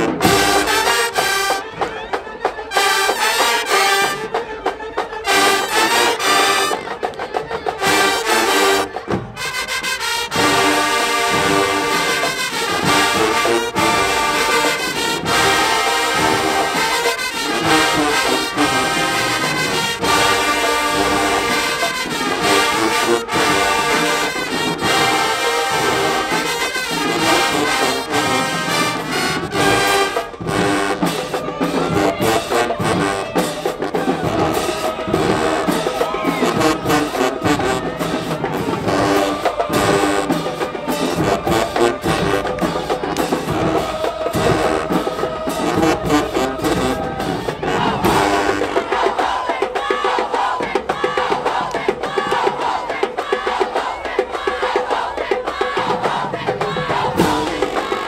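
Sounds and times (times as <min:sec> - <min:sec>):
marching band brass playing: 0:00.0 - 0:58.0
sharp rhythmic band hits: 0:07.7 - 0:58.0.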